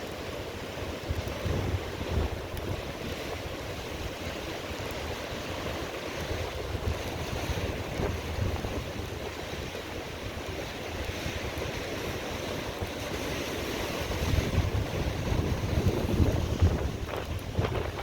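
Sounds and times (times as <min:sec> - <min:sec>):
sea waves washing on shore: 0:00.0 - 0:18.0
wind buffeting microphone: 0:00.9 - 0:18.0.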